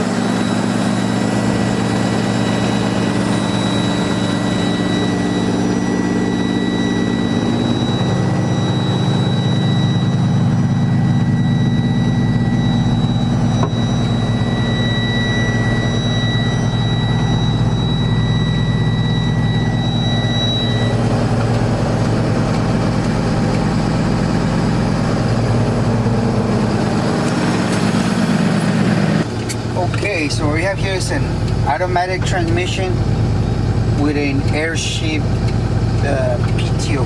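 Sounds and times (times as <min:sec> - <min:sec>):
diesel engine idling: 0:00.0 - 0:37.0
high steady whine: 0:00.0 - 0:37.0.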